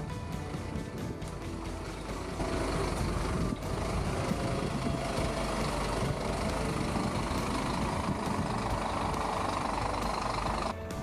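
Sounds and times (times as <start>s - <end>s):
lorry diesel engine running: 0.0s - 11.0s.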